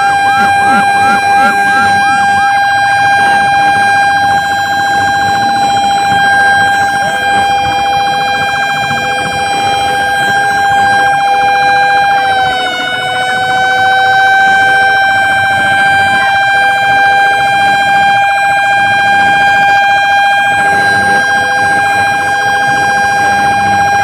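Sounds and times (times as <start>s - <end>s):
fire truck siren: 0.0s - 24.0s
lower siren tone: 0.0s - 24.0s.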